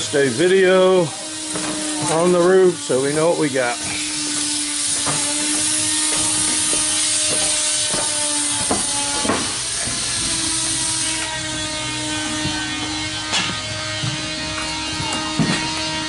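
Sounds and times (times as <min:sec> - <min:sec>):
loud steady hissing: 0:00.0 - 0:16.0.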